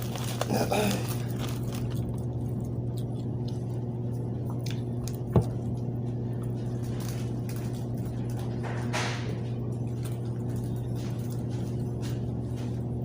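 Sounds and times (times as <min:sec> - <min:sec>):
wet chewing of flatbread: 0:00.0 - 0:08.6, 0:09.3 - 0:13.0
steady low hum: 0:00.0 - 0:13.0.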